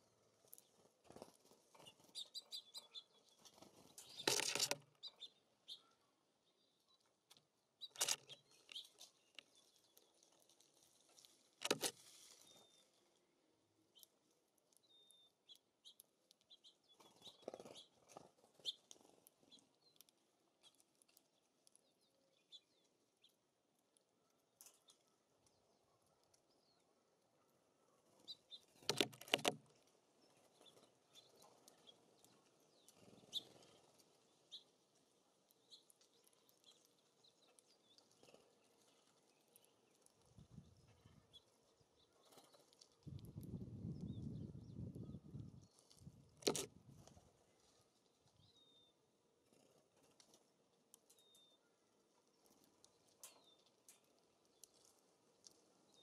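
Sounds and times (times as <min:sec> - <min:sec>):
songbirds chirping faintly: 0:00.0 - 0:56.0.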